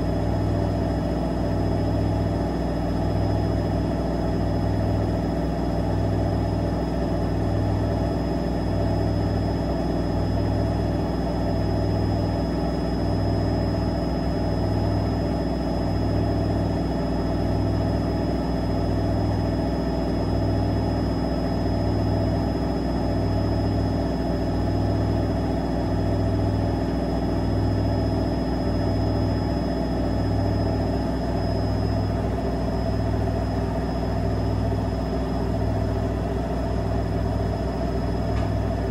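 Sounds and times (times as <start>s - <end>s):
high-pitched whine: 7.8s - 38.9s.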